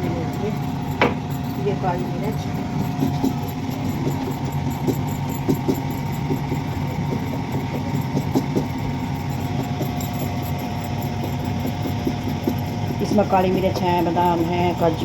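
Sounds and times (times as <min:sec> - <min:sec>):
light ticks and clinks: 0:00.0 - 0:15.0
low motor hum: 0:00.0 - 0:15.0.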